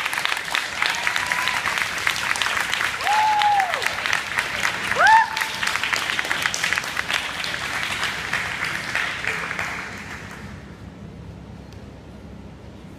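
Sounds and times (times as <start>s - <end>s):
audience clapping: 0.0s - 10.7s.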